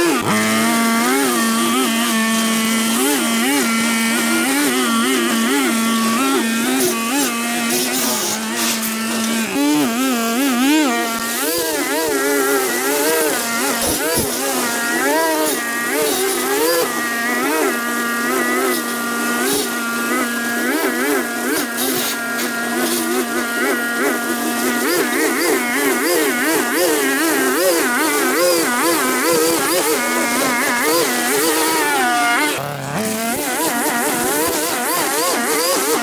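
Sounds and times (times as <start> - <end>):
small petrol engine running: 0.0 - 36.0.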